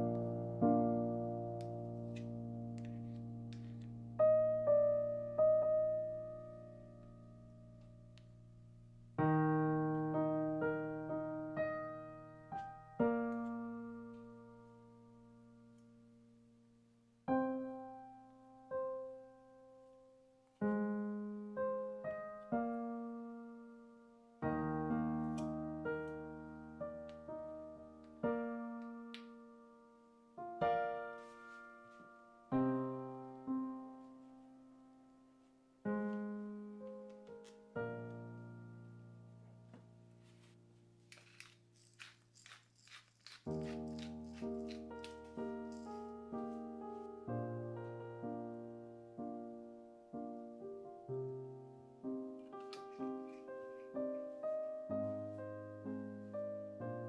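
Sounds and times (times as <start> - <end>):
piano music: 0.0 - 16.4, 17.2 - 41.0, 43.4 - 57.0.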